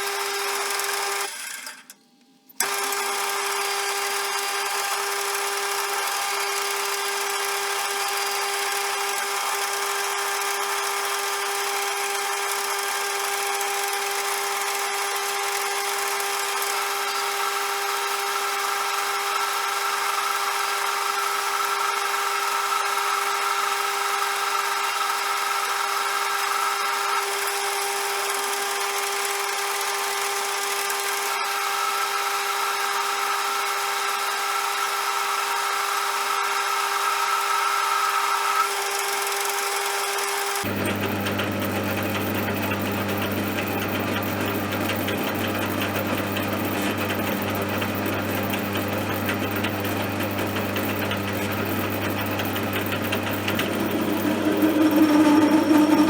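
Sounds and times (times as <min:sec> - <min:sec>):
lathe whining: 0:00.0 - 0:01.8, 0:02.6 - 0:56.0.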